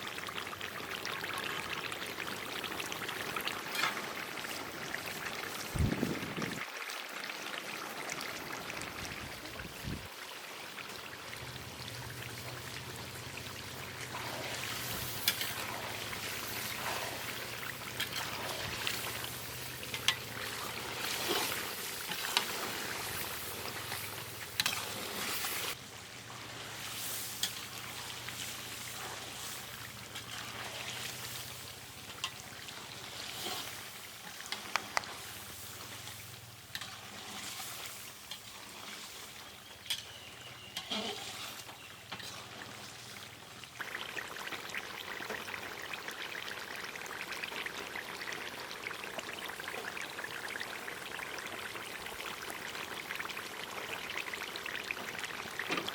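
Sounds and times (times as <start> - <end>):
water trickling and pouring: 0.0 - 55.9.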